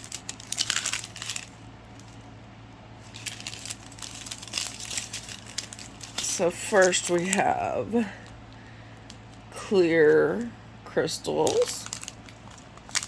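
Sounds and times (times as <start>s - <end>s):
plastic bags crinkling: 0.0s - 2.4s, 3.0s - 10.5s, 11.2s - 13.0s.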